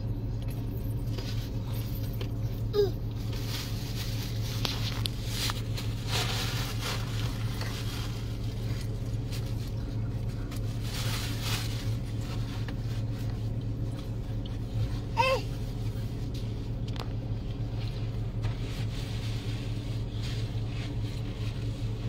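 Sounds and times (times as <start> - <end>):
car engine drone: 0.0 - 22.0
road noise inside car: 0.0 - 22.0
soft rustles: 0.6 - 22.0.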